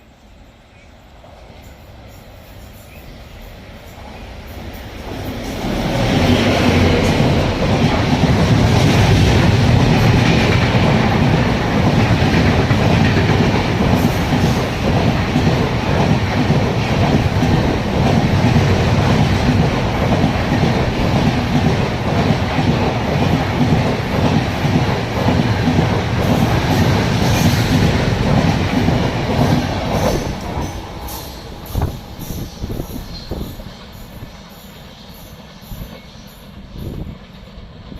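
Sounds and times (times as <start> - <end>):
train wheels clattering over rails: 4.0 - 37.9.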